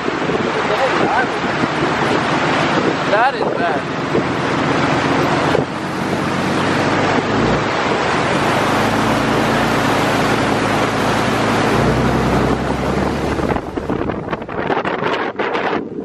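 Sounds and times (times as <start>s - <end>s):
truck engine running: 0.0s - 14.9s
floodwater rushing and spraying: 0.0s - 16.0s.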